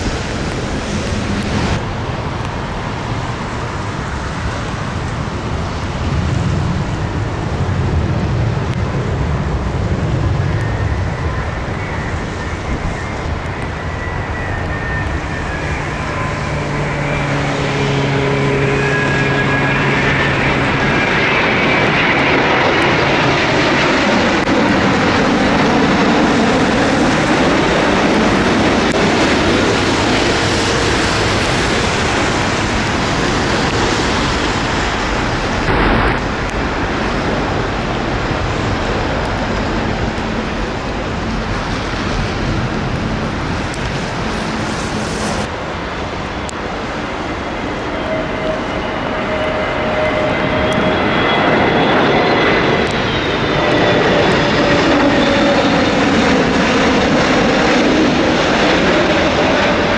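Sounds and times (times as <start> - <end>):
jet airliner roar: 0.0 - 59.9.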